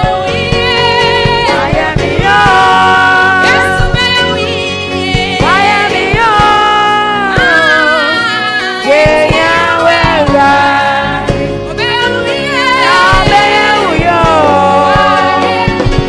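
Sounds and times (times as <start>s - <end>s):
girl singing a gospel song: 0.0s - 16.0s.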